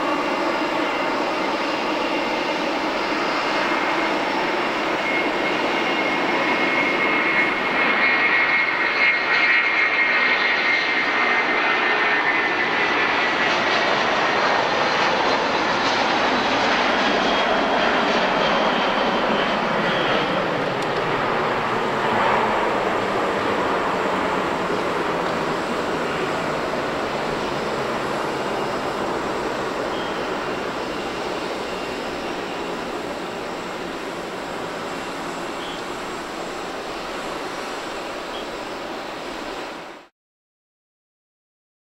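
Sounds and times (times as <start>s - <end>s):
jet airliner taking off: 0.0s - 40.1s.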